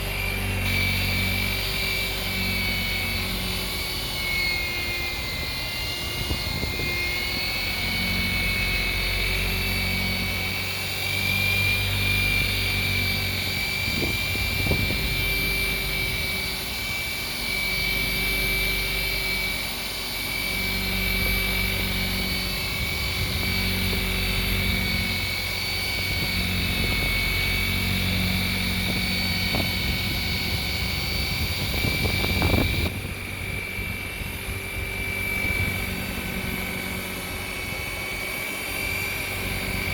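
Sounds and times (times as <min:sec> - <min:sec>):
rotary buffer motor whine: 0:00.0 - 0:39.9.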